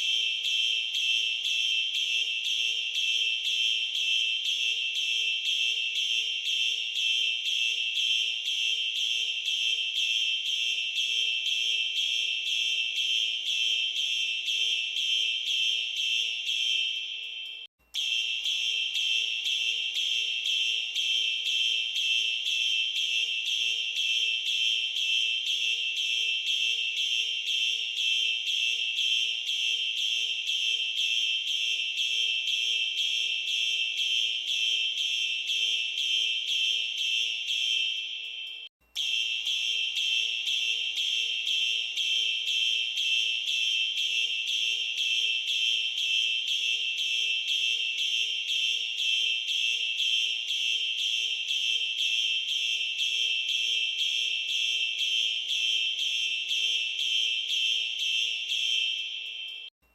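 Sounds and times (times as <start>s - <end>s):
fire alarm pulsing tone: 0.0s - 59.9s.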